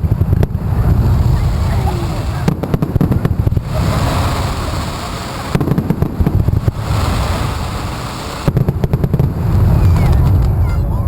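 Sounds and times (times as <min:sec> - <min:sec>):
fireworks crackling: 0:00.0 - 0:11.0
steady low rumble: 0:00.0 - 0:11.0.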